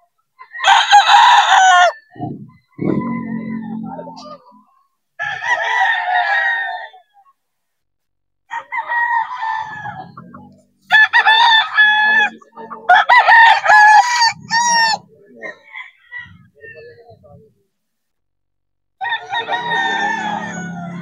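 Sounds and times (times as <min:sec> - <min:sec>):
roosters crowing: 0:00.4 - 0:07.2, 0:08.5 - 0:16.8, 0:19.0 - 0:21.0.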